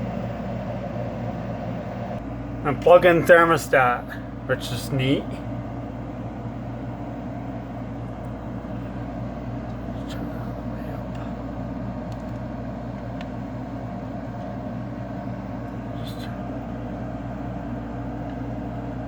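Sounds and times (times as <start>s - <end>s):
window air conditioner humming: 0.0s - 19.0s.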